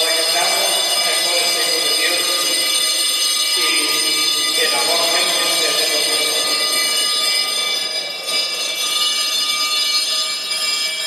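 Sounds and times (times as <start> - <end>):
bells ringing: 0.0 - 11.0.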